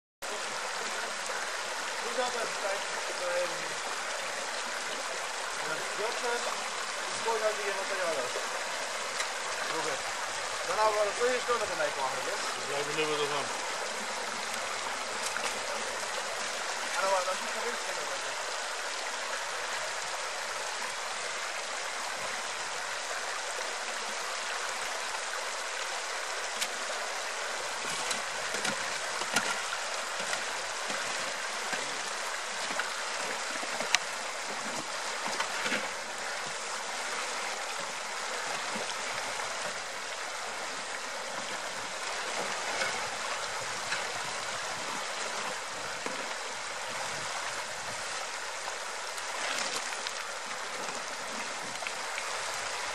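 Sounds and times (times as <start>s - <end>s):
river rushing over stones: 0.2s - 52.9s.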